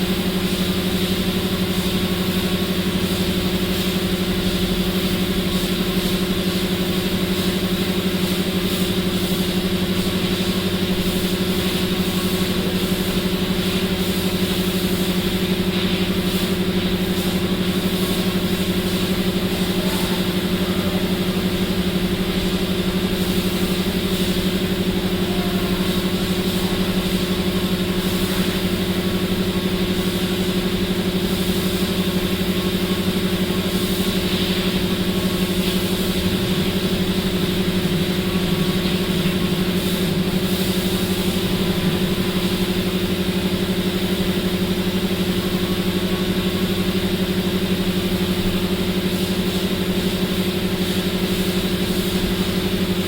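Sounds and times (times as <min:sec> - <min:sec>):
motor running steadily: 0:00.0 - 0:53.0.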